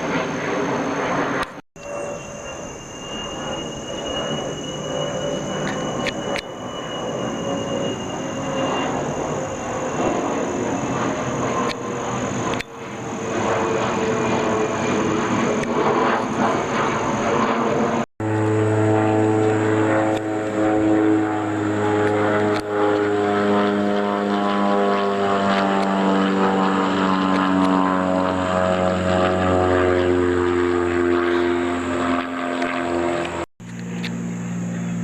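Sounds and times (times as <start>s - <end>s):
propeller airplane engine droning: 0.0s - 35.0s.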